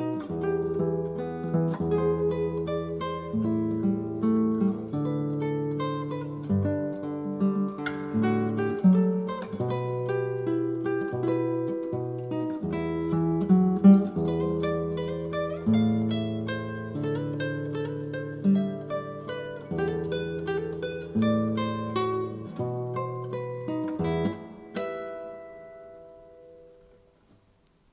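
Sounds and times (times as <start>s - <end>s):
acoustic guitar playing: 0.0s - 27.9s.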